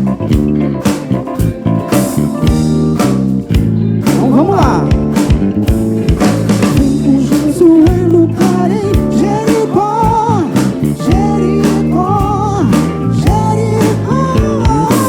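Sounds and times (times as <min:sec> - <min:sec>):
drums steady beat: 0:00.0 - 0:15.0
live soul band playing: 0:00.0 - 0:15.0.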